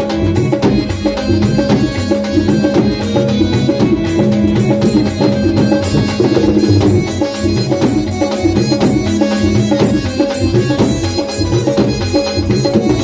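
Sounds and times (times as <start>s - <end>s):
dhol drumming: 0.0s - 13.0s
held musical notes: 0.0s - 13.0s.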